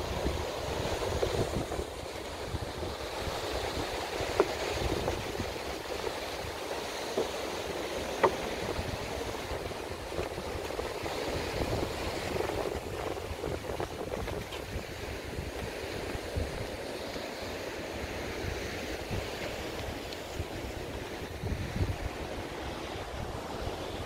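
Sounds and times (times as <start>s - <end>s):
wind buffeting microphone: 0.0s - 16.9s, 18.2s - 24.0s
ocean surf over rocks: 0.0s - 24.0s.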